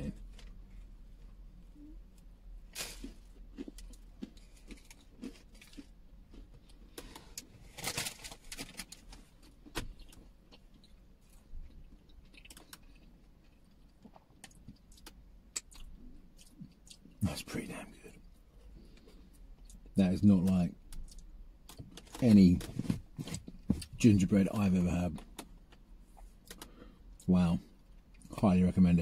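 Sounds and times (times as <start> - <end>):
person chewing gingerbread: 1.7 - 24.0, 25.2 - 28.4.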